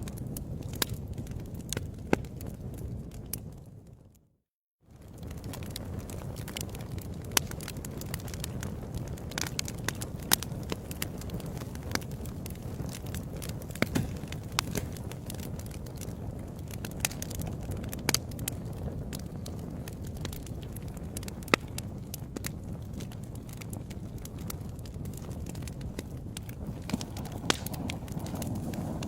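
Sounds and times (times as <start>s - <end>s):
fire crackling and popping: 0.0s - 4.3s, 4.9s - 29.0s
low rumble of flames: 0.0s - 29.0s.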